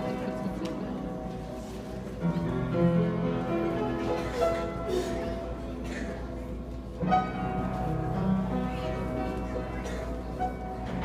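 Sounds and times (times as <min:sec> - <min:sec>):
piano music with sustained notes: 0:00.0 - 0:11.0.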